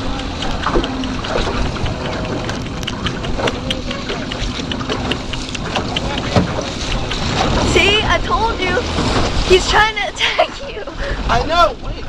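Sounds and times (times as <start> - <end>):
small sharp splashes: 0.0 - 9.9
water rushing along hull: 0.0 - 12.0
wind buffeting microphone: 0.0 - 12.0.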